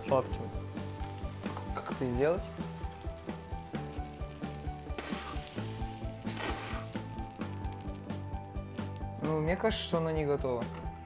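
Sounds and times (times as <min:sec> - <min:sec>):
patty sizzling on a grill: 0:00.0 - 0:09.2.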